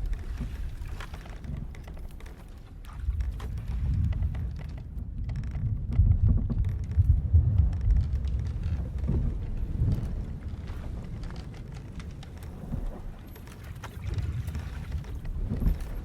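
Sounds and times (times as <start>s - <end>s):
deep rumble of wind and sea: 0.0s - 16.0s
ship's timbers knocking and creaking: 0.0s - 16.0s.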